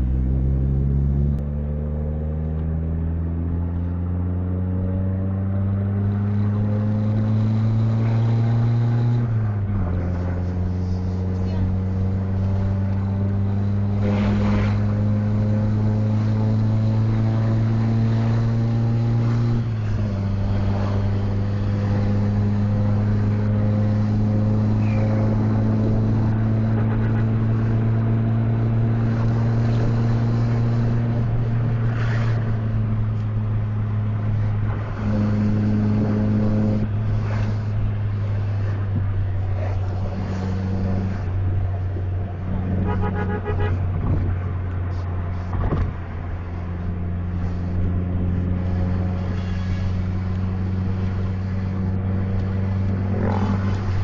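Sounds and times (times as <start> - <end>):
bus engine droning: 0.0 - 54.0.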